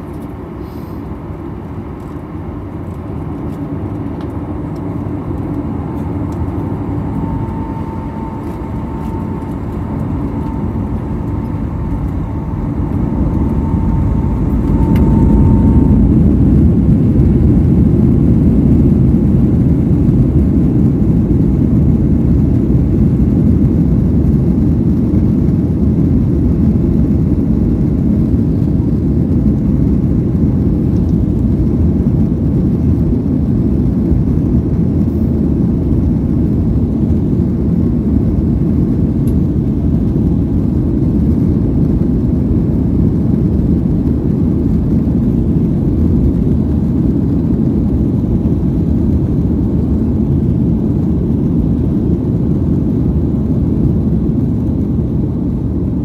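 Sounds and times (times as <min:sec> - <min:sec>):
high engine whine: 0:00.0 - 0:56.0
jet engines in cabin: 0:00.0 - 0:56.0.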